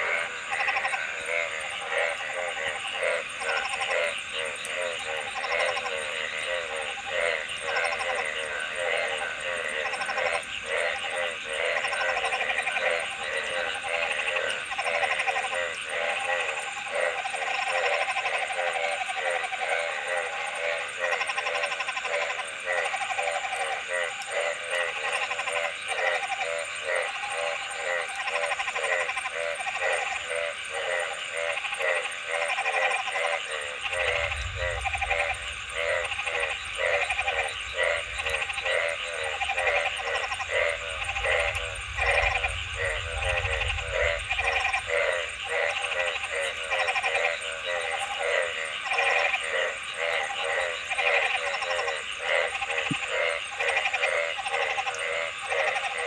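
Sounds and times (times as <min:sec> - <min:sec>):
frogs croaking: 0:00.0 - 0:56.0.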